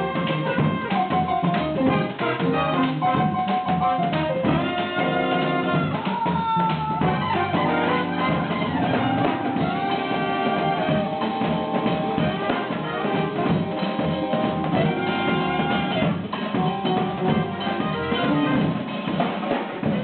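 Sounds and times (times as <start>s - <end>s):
drum kit with kick and snare: 0.0s - 20.0s.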